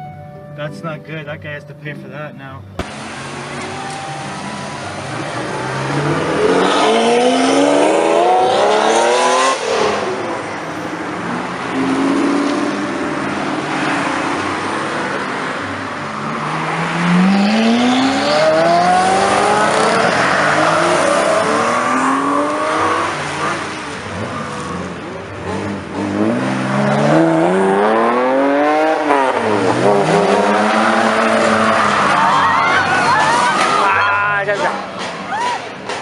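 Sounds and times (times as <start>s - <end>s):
sports car engines revving: 2.7s - 36.0s.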